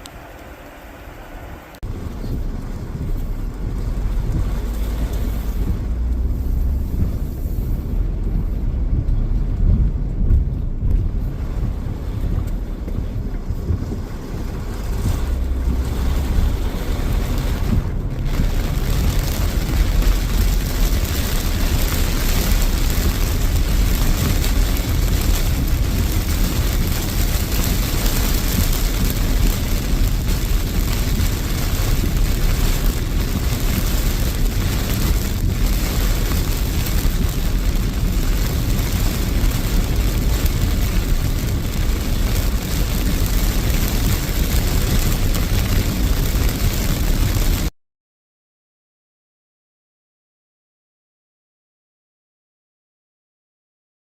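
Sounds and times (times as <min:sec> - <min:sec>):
heavy rain: 0:00.0 - 0:47.7
wind buffeting microphone: 0:00.0 - 0:47.7.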